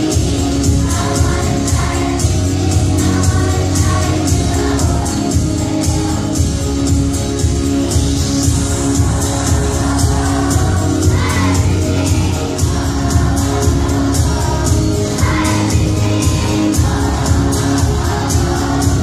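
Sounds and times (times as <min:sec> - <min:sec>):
children singing together: 0:00.0 - 0:19.0
music with steady beat: 0:00.0 - 0:19.0.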